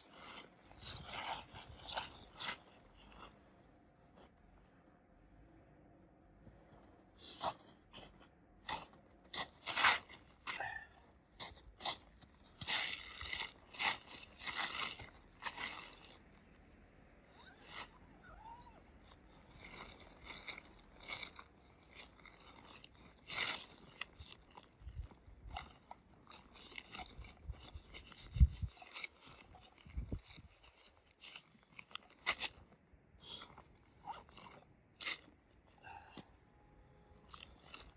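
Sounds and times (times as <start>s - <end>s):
crunching and rustling of gear: 0.0s - 37.9s.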